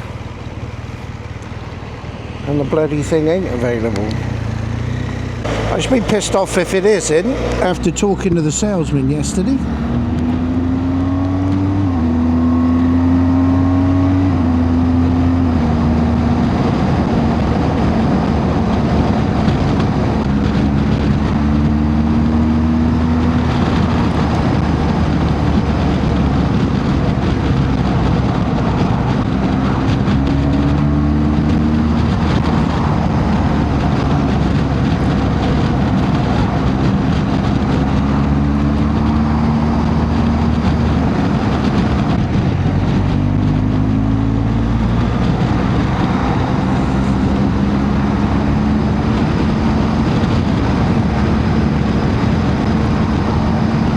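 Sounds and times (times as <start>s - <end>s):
motorcycle engine revving: 0.0s - 53.9s
wind and road rush: 0.0s - 53.9s.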